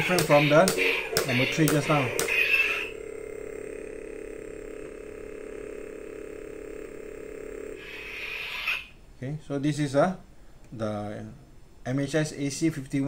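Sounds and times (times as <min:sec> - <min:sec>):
steady electric hum: 0:00.0 - 0:13.0.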